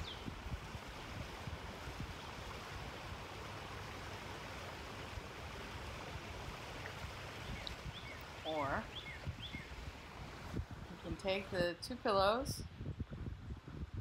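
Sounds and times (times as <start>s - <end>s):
river water flowing: 0.0s - 11.6s.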